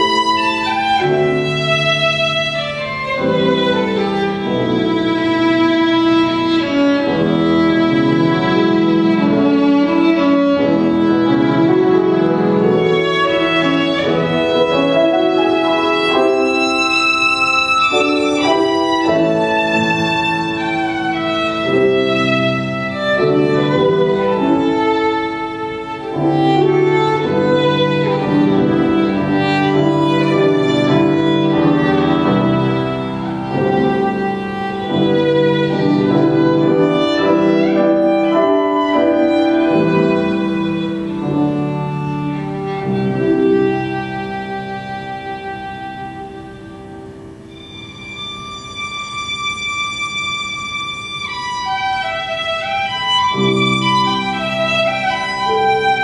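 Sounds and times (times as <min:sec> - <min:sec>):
piano accompaniment: 0:00.0 - 0:56.0
solo violin melody: 0:00.0 - 0:56.0.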